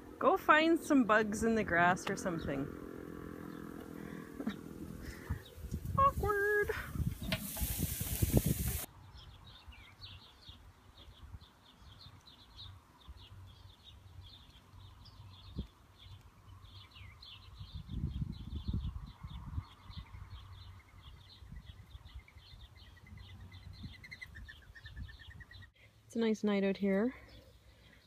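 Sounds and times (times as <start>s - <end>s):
small birds chirping: 0.5s - 28.0s.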